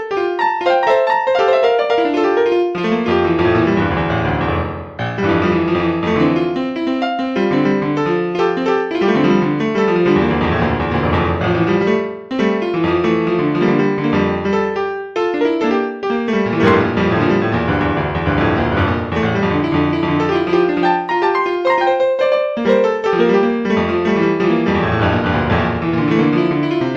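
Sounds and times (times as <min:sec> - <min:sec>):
piano music: 0:00.1 - 0:26.9.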